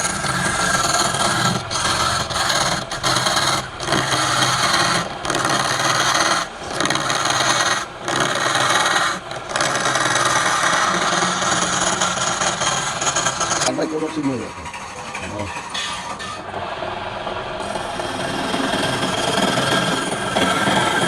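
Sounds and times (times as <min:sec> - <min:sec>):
lathe motor hum: 0:00.0 - 0:21.0
tool scraping spinning wood: 0:00.0 - 0:21.0.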